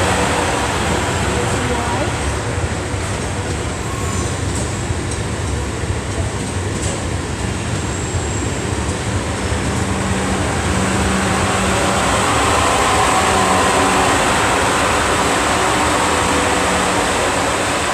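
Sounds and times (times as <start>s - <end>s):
electric train running past: 0.0s - 17.9s.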